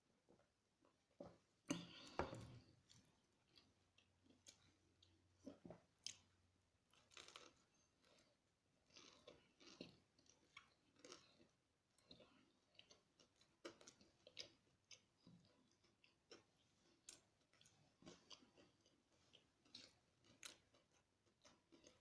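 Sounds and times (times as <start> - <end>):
person chewing crispy food: 1.7 - 22.0.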